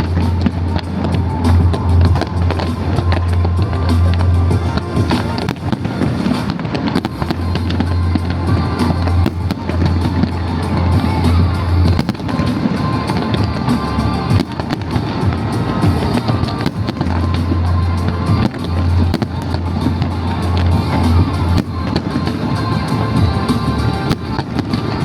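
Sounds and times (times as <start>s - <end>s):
fireworks bursting and crackling: 0.0s - 25.0s
loud music with heavy bass: 0.0s - 25.0s.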